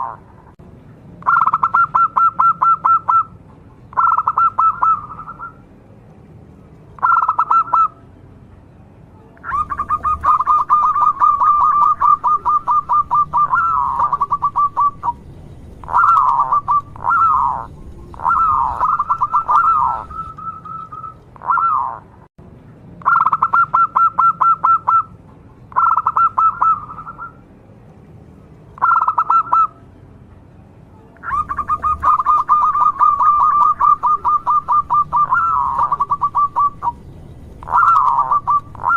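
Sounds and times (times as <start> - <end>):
dove cooing trills: 0.0 - 0.3, 1.2 - 5.6, 7.0 - 8.0, 9.4 - 22.1, 23.0 - 27.4, 28.8 - 29.8, 31.2 - 38.9.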